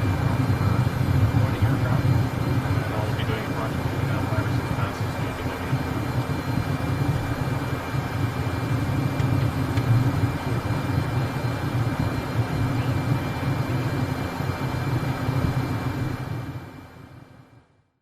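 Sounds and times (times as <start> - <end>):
jet engine rumble: 0.0 - 17.5
high jet engine whine: 0.0 - 17.8.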